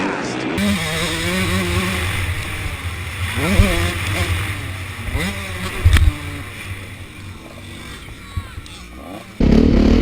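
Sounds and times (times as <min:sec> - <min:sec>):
motocross bike engines revving: 0:00.4 - 0:10.0.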